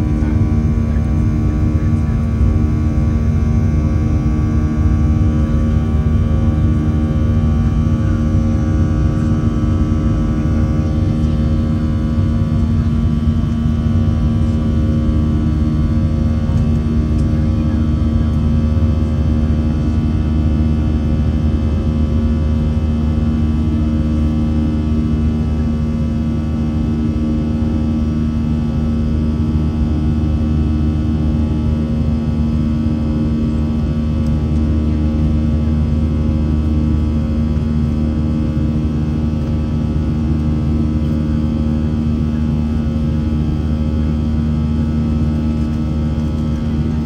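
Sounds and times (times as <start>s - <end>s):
jet engine cabin drone: 0.0s - 47.0s.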